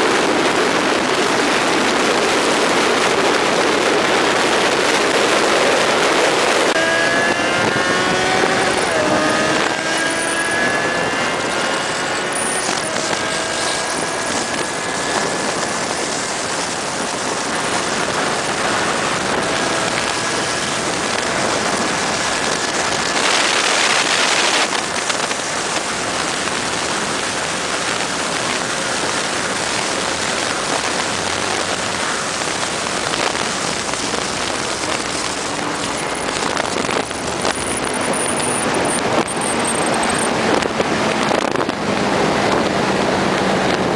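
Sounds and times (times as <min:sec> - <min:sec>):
wind rushing at high speed: 0:00.0 - 0:43.9
faint motorcycle engine: 0:06.7 - 0:43.9.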